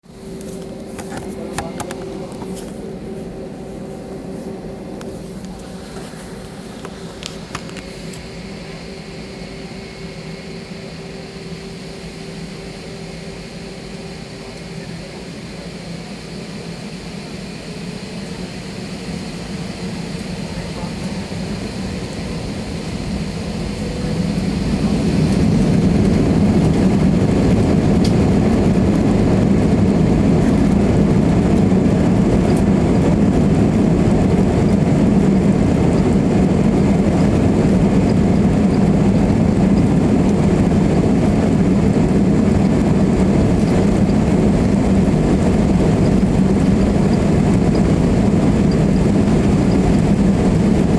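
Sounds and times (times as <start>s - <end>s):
aeroplane engines deep rumble: 0.0s - 50.9s.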